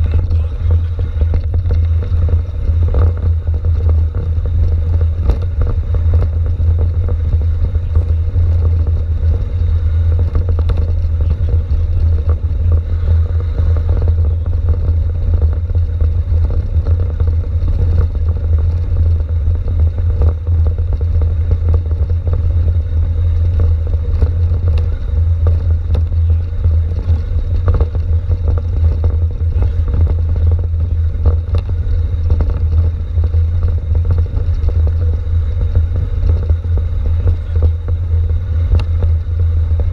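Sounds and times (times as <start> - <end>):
bike rumbling over cobblestones: 0.0 - 39.9.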